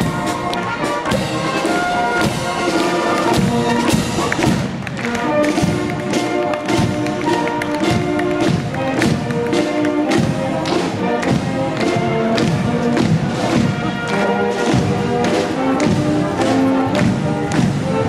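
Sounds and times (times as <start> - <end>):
brass band playing a march: 0.0 - 18.0.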